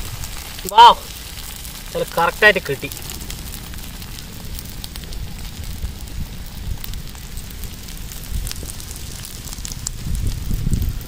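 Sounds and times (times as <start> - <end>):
low fire rumble: 0.0 - 11.0
wood fire crackling: 0.0 - 11.0.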